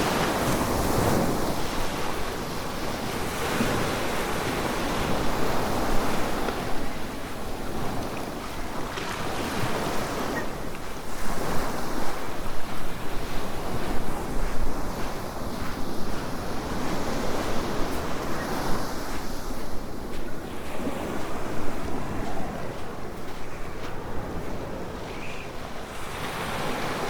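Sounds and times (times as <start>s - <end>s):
waves washing onto beach: 0.0s - 27.0s
wind on microphone: 0.0s - 27.0s.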